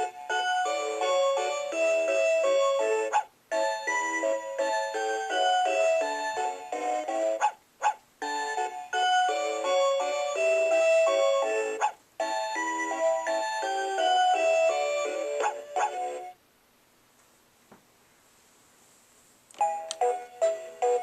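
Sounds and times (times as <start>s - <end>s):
electronic toy melody: 0.0s - 7.4s, 8.2s - 16.4s, 19.6s - 21.0s.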